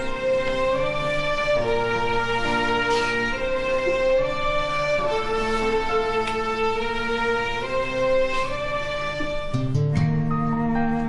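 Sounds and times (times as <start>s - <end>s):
sad slow string music: 0.0s - 11.0s.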